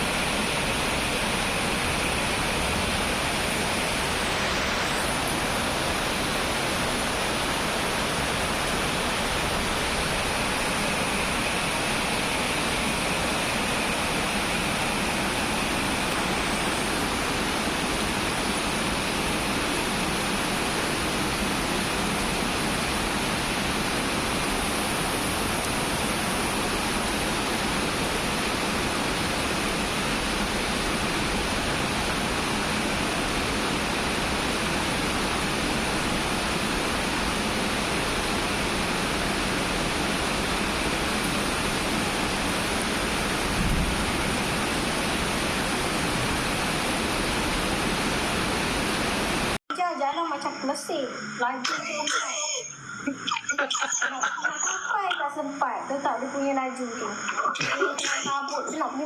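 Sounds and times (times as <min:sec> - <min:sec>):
heavy rain falling: 0:00.0 - 0:49.6, 0:51.2 - 0:55.2.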